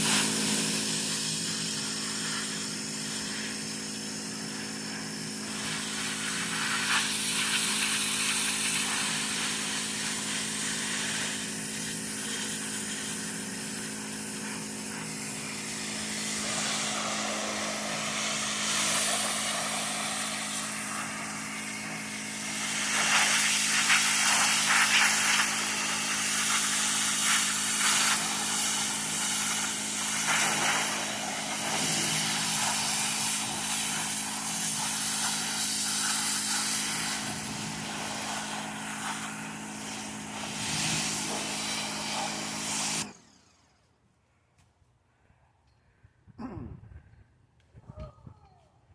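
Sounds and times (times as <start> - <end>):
water spray hissing: 0.0 - 43.0
pressure washer engine hum: 0.0 - 43.7.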